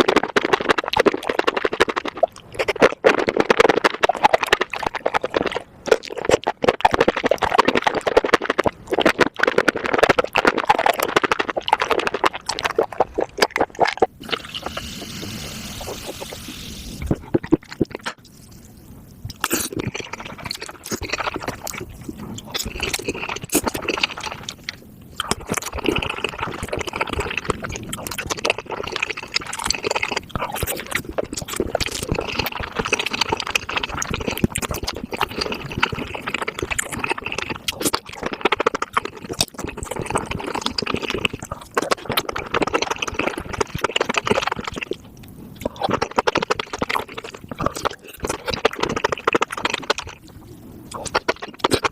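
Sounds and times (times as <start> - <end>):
wet chewing and slurping: 0.0 - 51.9.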